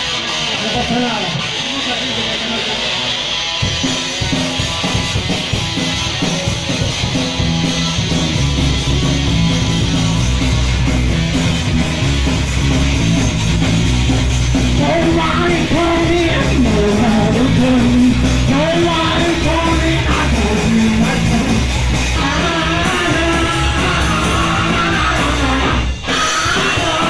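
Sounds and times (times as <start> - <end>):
electric guitar: 0.0 - 27.0
punk band playing live: 0.0 - 27.0
heavy bass: 3.3 - 27.0.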